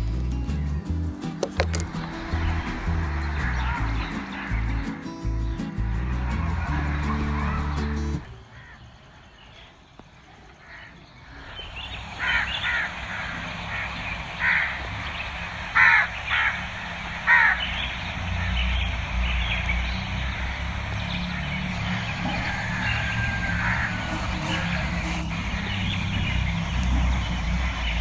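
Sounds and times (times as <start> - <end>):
steady low hum: 0.0 - 8.4, 11.3 - 28.0
harsh bird calls: 0.3 - 28.0.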